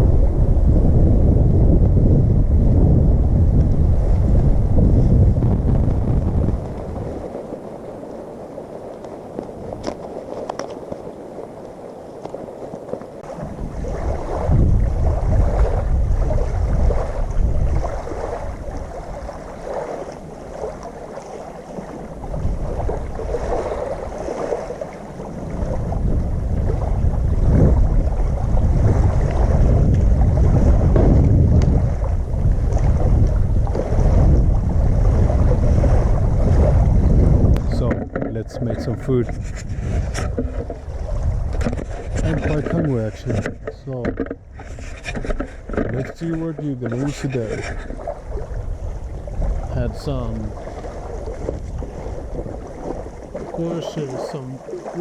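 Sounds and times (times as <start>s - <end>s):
wind buffeting microphone: 0.0s - 46.1s, 46.9s - 53.6s.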